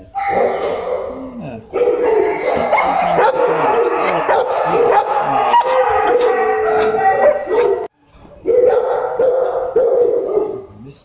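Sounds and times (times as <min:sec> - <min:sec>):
dog howling: 0:00.0 - 0:10.8.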